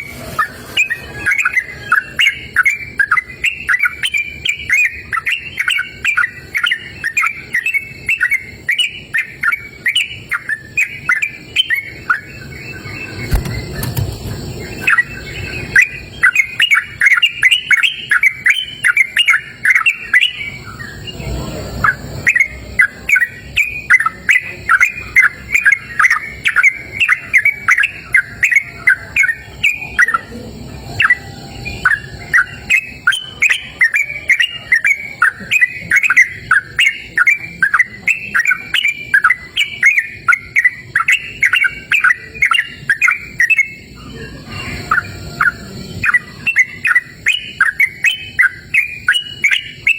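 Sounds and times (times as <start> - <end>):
bird singing rapid chirps: 0.0 - 49.9.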